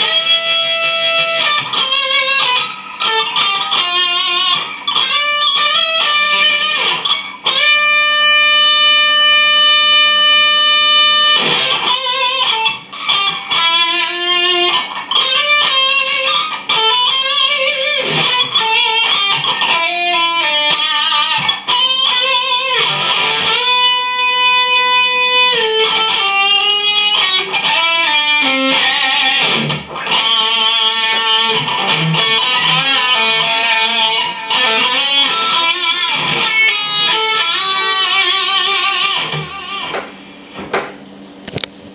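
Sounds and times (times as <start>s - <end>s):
electric guitar solo: 0.0s - 40.5s.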